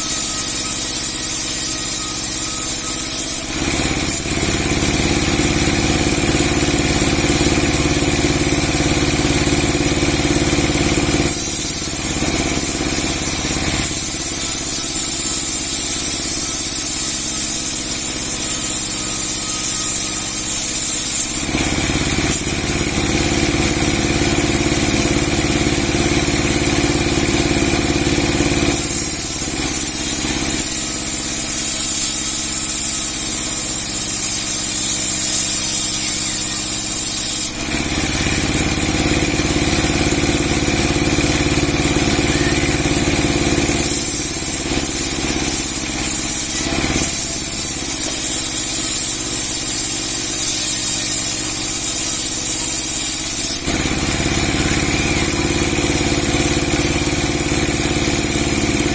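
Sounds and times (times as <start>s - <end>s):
log sawing machine running: 0.0s - 58.9s.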